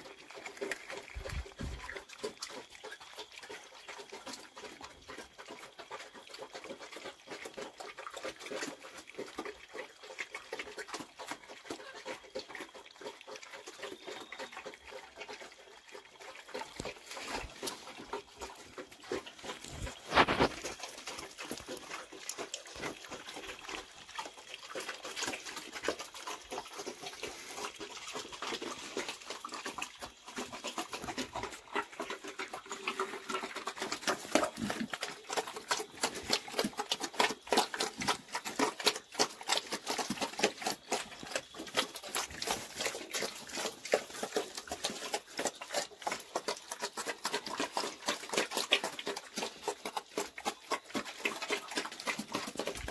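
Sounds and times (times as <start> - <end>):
piglets smacking and chewing: 0.0 - 52.9.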